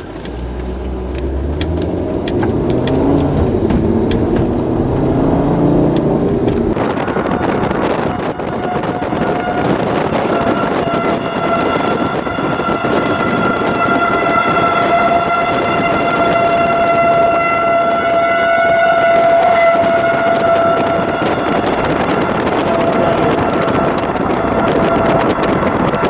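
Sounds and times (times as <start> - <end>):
wind rushing over microphone: 0.0 - 26.0
storm warning siren: 1.3 - 26.0.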